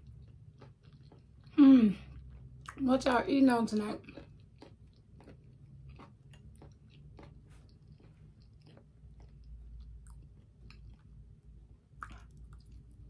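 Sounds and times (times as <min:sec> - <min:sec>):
person chewing fries: 0:00.0 - 0:13.0.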